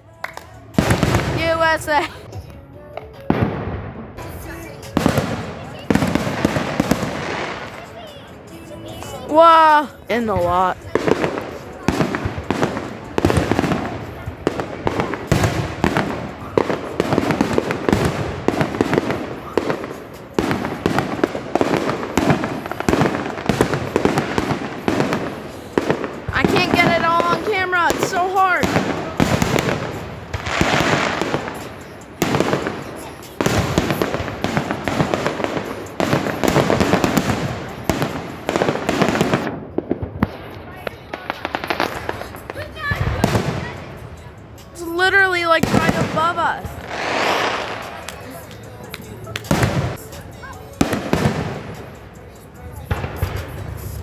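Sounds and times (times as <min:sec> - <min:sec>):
fireworks banging: 0:00.1 - 0:54.0.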